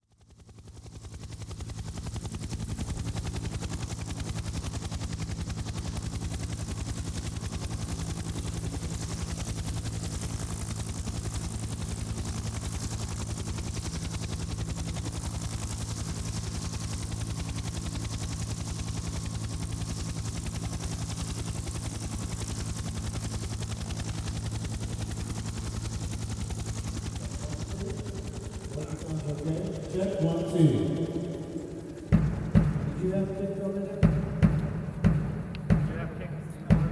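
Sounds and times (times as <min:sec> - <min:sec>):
machine running with pulsing hum: 0:00.1 - 0:36.9.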